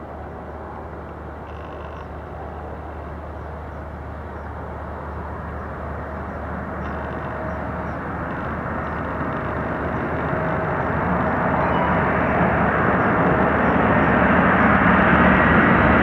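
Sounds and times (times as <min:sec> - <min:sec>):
jet aircraft engines: 0:02.2 - 0:16.0.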